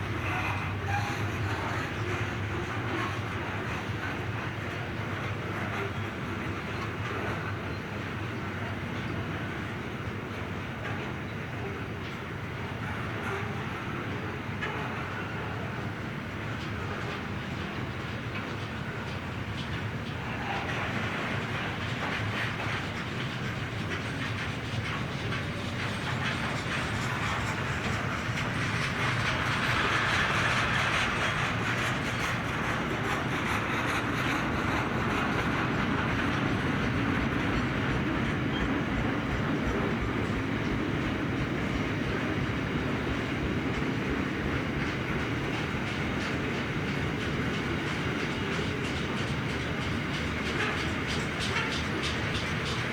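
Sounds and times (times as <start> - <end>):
freight train rolling past: 0.0 - 52.9
wheels clicking over rail joints: 0.0 - 52.9.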